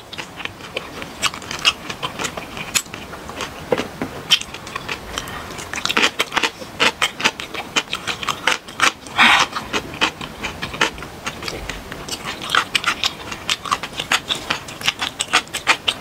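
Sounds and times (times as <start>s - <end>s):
wet chewing with mouth clicks: 0.0s - 16.0s.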